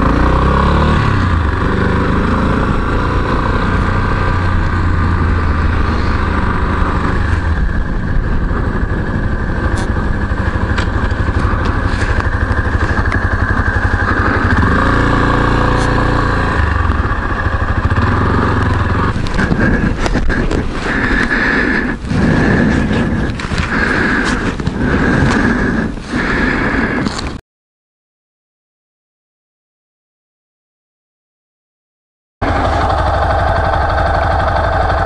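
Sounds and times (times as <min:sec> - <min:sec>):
motorcycle engine running: 0:00.0 - 0:27.3, 0:32.4 - 0:35.0.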